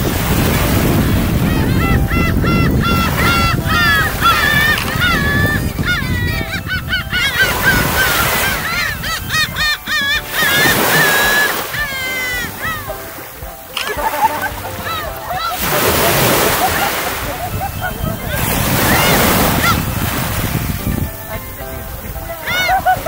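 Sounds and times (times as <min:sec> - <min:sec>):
gulls calling: 0:00.0 - 0:23.0
small waves washing onto beach: 0:00.0 - 0:23.0.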